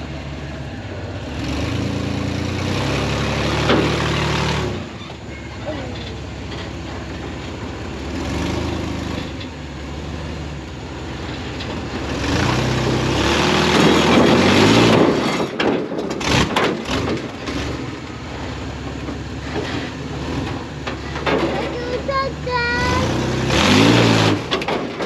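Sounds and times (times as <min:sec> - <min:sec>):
engine idling and revving: 0:00.0 - 0:25.0.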